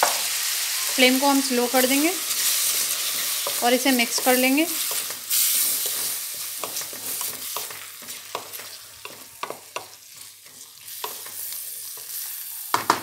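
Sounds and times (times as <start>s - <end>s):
vegetables sizzling in oil: 0.0s - 13.0s
spatula scraping a pan: 1.7s - 12.8s.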